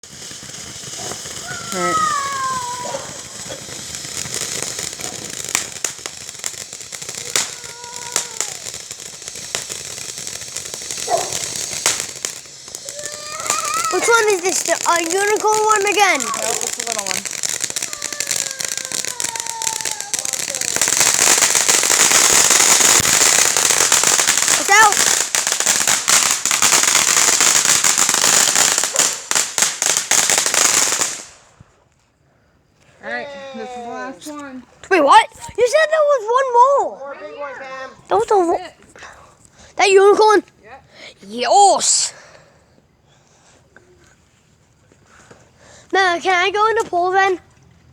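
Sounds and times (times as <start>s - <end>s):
firework hissing: 0.0s - 32.0s, 32.6s - 36.9s, 37.8s - 47.4s
firework crackling pops: 0.0s - 36.9s, 37.9s - 40.6s, 41.2s - 43.1s, 43.8s - 47.9s.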